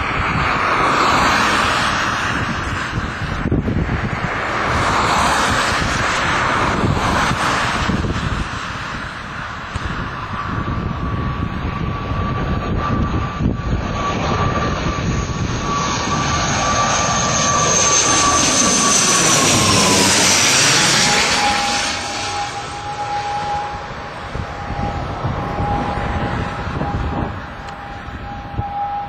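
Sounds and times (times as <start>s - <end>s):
turboprop airliner flying overhead: 0.0s - 29.0s.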